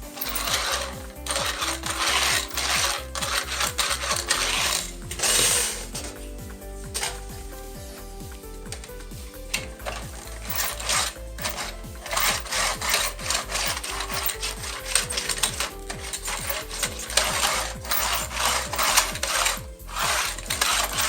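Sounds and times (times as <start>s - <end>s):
tool scraping sheet metal: 0.0s - 21.0s.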